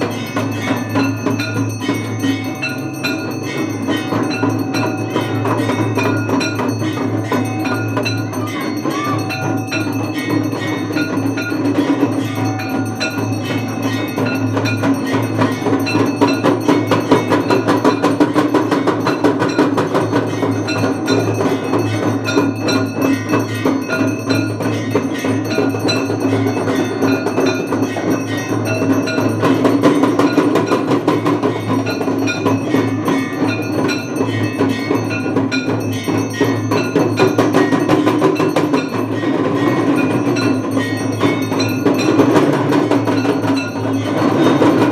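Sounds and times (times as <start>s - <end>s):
bells clanging rapidly: 0.0s - 44.9s.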